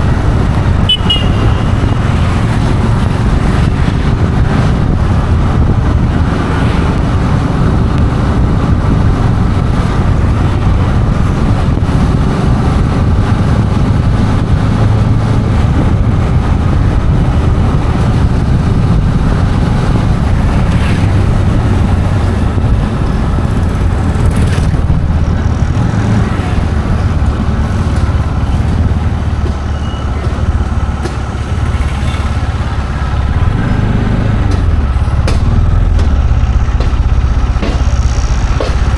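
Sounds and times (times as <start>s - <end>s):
road traffic noise: 0.0s - 38.9s.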